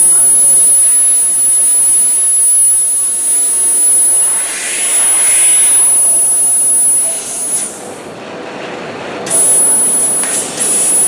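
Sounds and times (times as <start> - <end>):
laser cutting machine hiss and whine: 0.0 - 8.1, 9.3 - 11.0.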